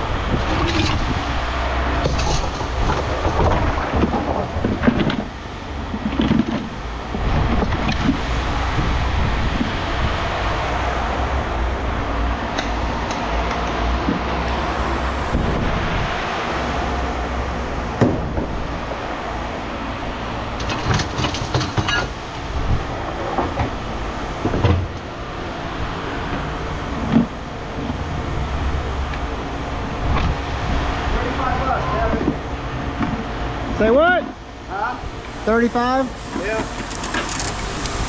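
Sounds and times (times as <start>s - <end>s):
machinery rumbling: 0.0s - 38.0s.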